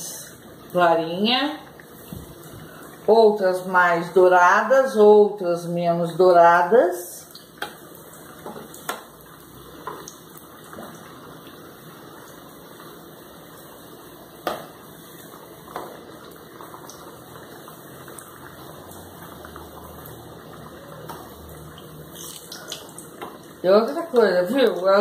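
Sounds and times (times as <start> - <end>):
cassava sizzling in oil: 0.0 - 25.0.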